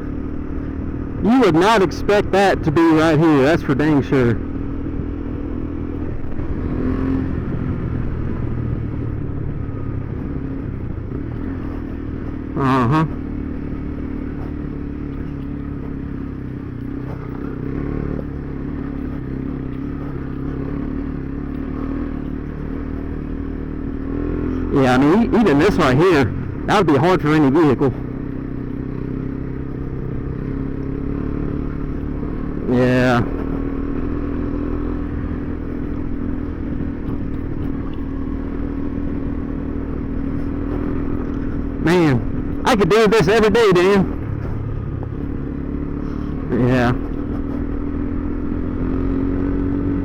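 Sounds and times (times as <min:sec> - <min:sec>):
motorcycle engine running: 0:00.0 - 0:50.0
road noise: 0:00.0 - 0:50.0
wind: 0:00.0 - 0:50.0.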